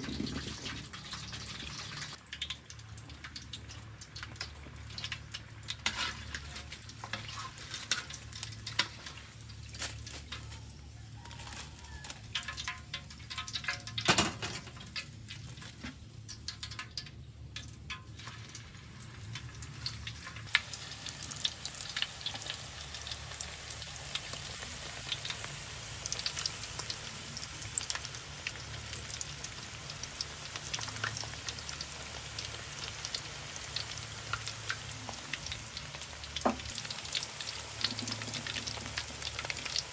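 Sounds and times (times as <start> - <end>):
oil sizzling with pops: 0.0 - 39.9.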